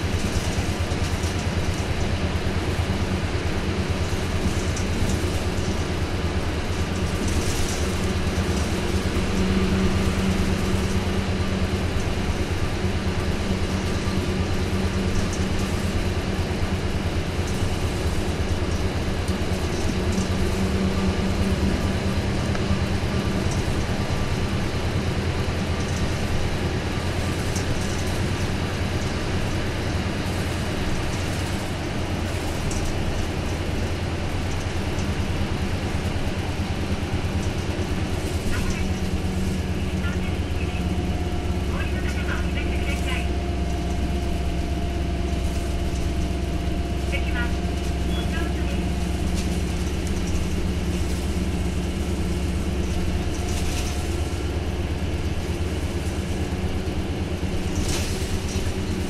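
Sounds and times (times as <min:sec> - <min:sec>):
diesel bus engine pulling: 0:00.0 - 0:59.0
road noise: 0:00.0 - 0:59.0.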